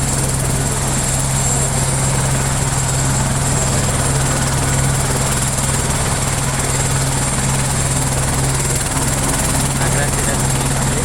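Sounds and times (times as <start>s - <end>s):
helicopter rotor pulse: 0.0s - 11.0s
high turbine whine: 0.0s - 11.0s.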